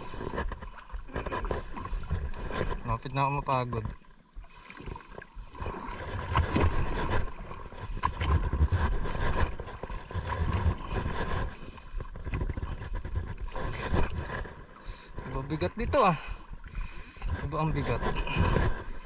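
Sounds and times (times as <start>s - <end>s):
wind rumbling on microphone: 0.0s - 3.1s, 5.6s - 19.0s
water noise: 0.0s - 19.0s.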